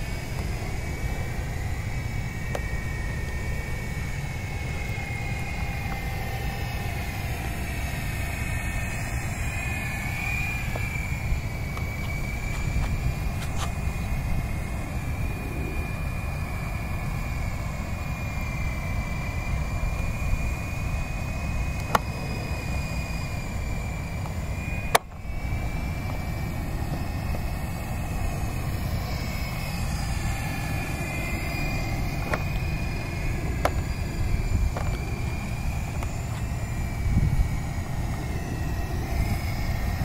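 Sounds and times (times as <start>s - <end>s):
helicopter electric motors whining: 0.0s - 40.0s
steady low rumble: 0.0s - 40.0s.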